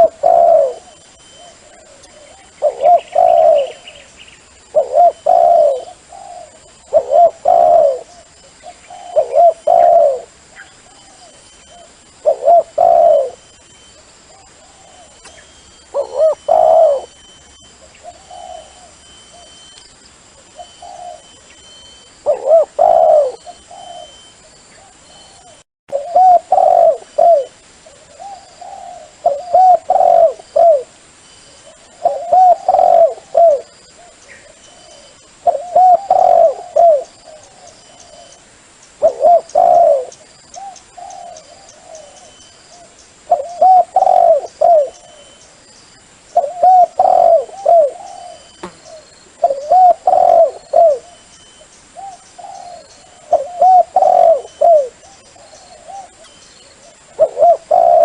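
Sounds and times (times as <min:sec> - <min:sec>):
dove cooing: 0:00.0 - 0:13.6, 0:14.3 - 0:19.6, 0:20.5 - 0:31.0, 0:31.6 - 0:38.4, 0:39.0 - 0:45.4, 0:46.4 - 0:51.4, 0:52.0 - 0:58.0.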